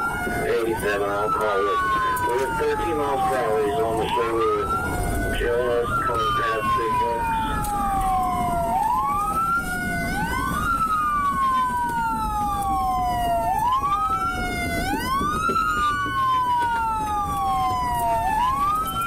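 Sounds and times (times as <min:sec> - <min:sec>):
police sirens wailing: 0:00.0 - 0:19.0.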